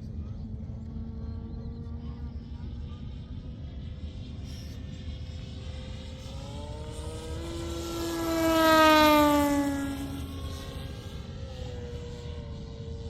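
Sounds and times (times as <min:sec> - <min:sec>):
model airplane propeller drone: 0:00.0 - 0:13.0.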